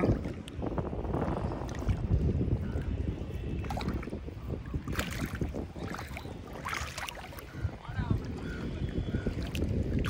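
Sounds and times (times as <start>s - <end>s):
faint water splashes: 0.0s - 10.0s
wind buffeting microphone: 0.0s - 10.0s.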